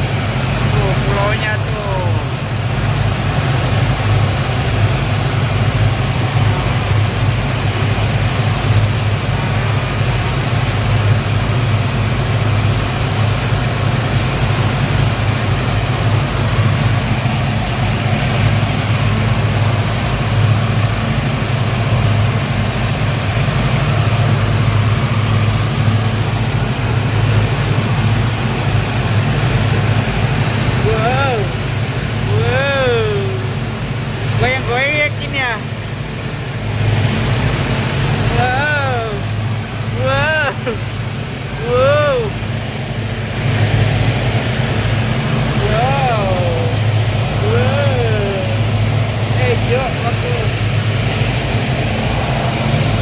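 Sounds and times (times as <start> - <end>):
speedboat engines droning: 0.0 - 53.0
water rushing: 0.0 - 53.0.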